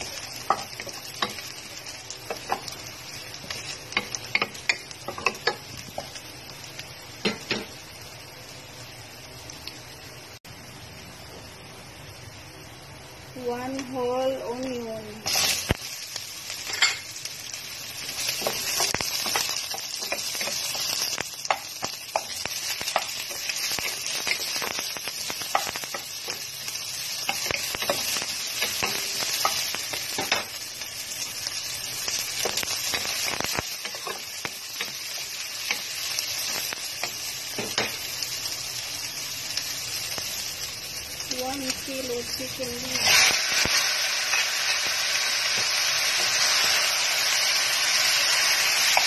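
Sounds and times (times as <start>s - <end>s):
onion sizzling in hot oil: 0.0s - 49.0s.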